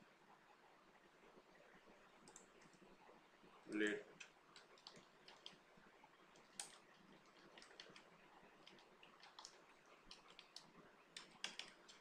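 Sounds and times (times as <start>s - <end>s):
faint keyboard typing: 1.3s - 12.0s.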